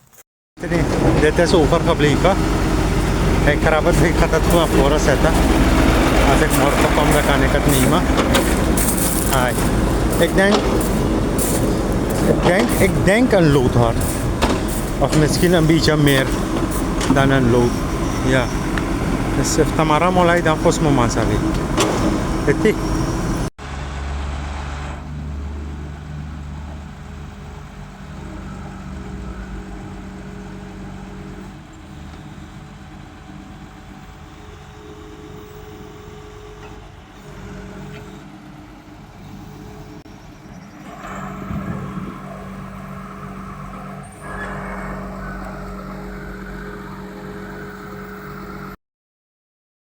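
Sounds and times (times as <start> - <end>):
heavy machine engine running: 0.6 - 48.8.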